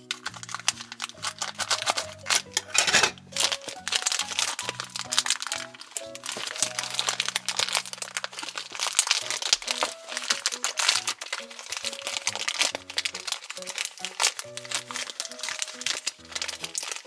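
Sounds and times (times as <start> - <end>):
light background music: 0.0 - 17.0
plastic bag crinkling: 0.0 - 17.0.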